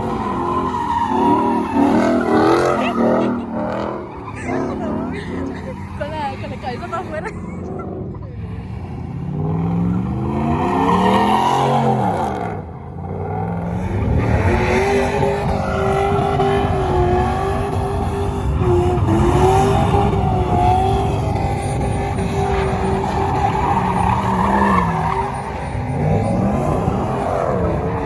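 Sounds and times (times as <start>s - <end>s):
tire squeal: 0.0s - 28.0s
truck engine revving: 0.0s - 28.0s.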